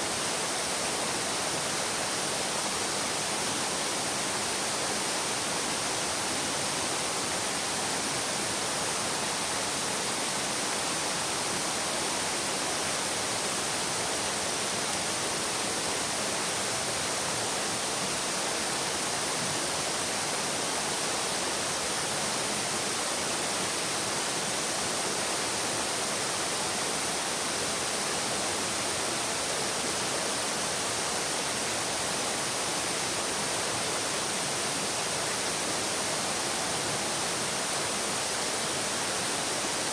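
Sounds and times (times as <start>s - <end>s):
brook water rushing: 0.0s - 39.9s.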